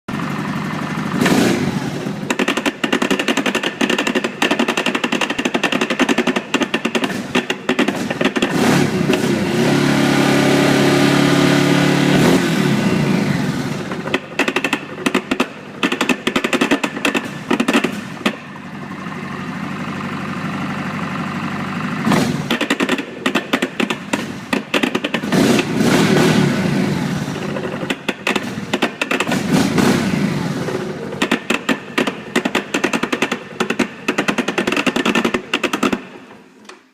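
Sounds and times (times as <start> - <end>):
engine knocking rattle: 0.1 - 9.3, 13.7 - 26.3, 27.2 - 36.1
atv engine running: 0.1 - 36.0.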